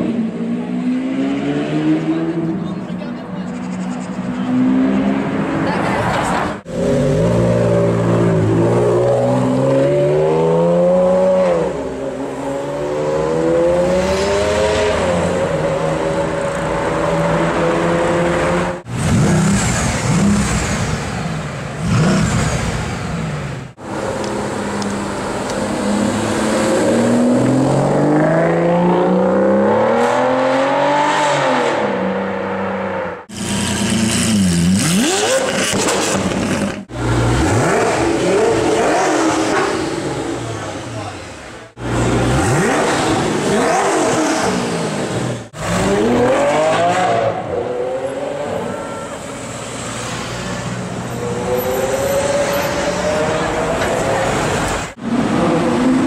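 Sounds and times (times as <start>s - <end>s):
supercar engines revving: 0.0s - 56.0s.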